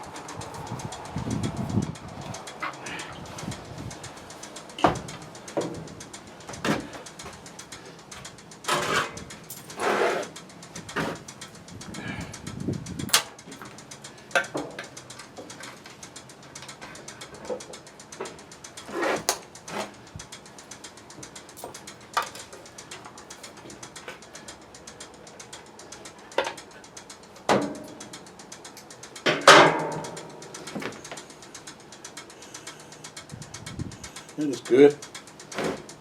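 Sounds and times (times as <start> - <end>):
metal tools clicking and knocking: 0.0 - 36.0
ratchet clicking: 0.0 - 36.0.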